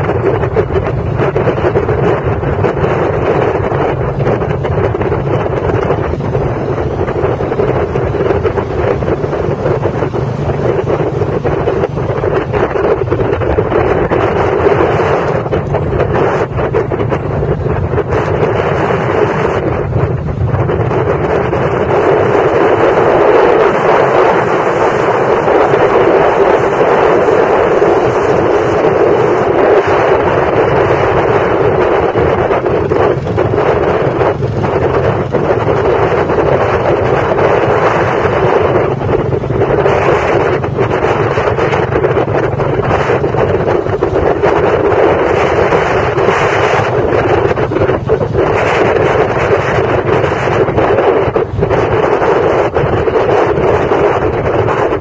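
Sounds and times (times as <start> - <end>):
motorcycle engines running: 0.0 - 55.0
road noise: 0.0 - 55.0
wind buffeting microphone: 0.0 - 55.0.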